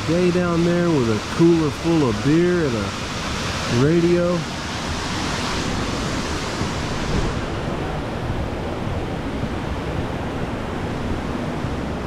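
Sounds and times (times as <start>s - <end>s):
water rushing over waterfall: 0.0s - 12.0s.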